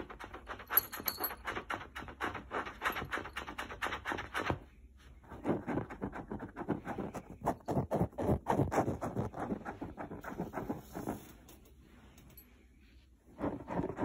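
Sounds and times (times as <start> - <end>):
scratching on fabric: 0.0 - 14.0.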